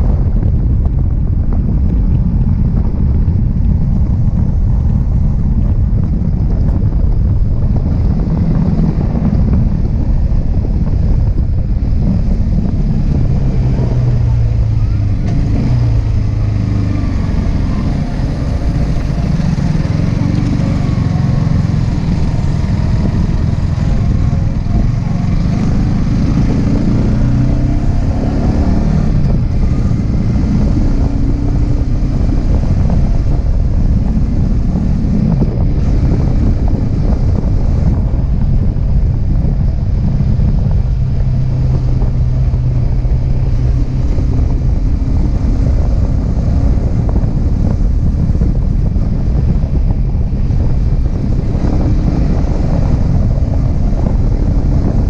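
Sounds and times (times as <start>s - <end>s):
motorcycle engine and exhaust: 0.0s - 55.0s
wind buffeting microphone: 0.0s - 55.0s.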